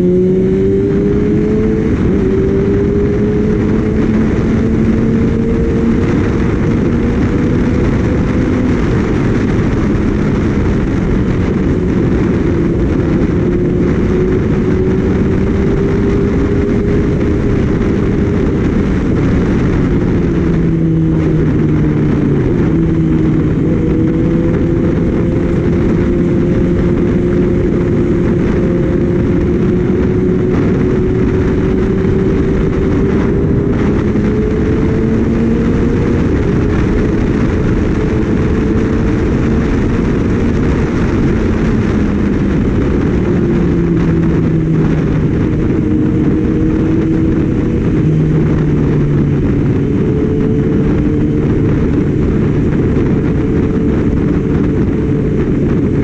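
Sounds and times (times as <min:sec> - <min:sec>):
motorcycle engine at speed: 0:00.0 - 0:56.0
wind rush on microphone: 0:00.0 - 0:56.0.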